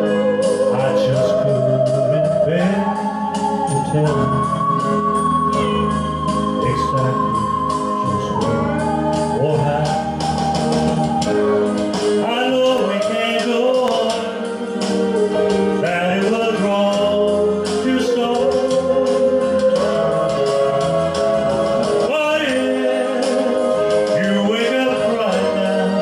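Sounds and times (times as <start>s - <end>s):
man singing slow ballad: 0.0s - 26.0s.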